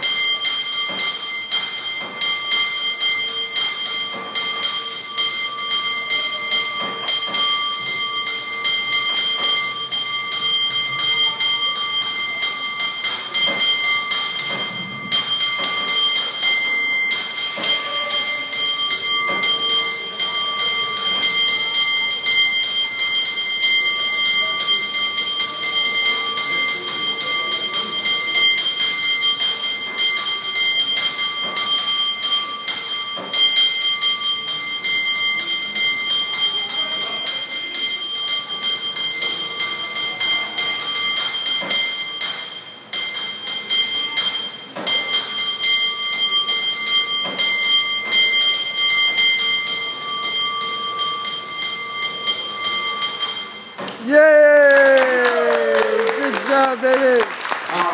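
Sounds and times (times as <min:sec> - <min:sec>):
cable car bell ringing: 0:00.0 - 0:56.2.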